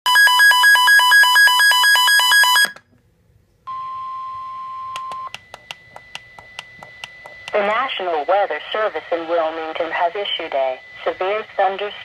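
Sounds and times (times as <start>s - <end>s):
steady warning alarm tone: 0.1s - 2.8s, 3.7s - 12.0s.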